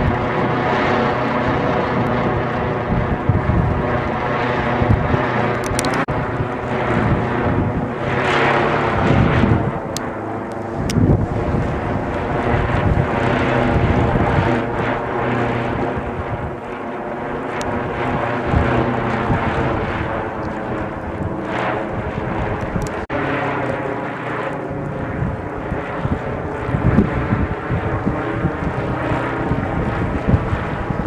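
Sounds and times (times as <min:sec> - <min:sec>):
wind gusts buffeting microphone: 0:00.0 - 0:31.0.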